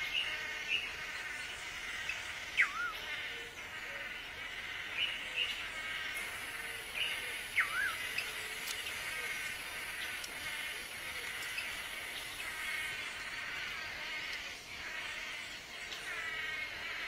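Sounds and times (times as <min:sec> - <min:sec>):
birds calling: 0:00.0 - 0:17.0
steady insect hum: 0:00.0 - 0:17.0.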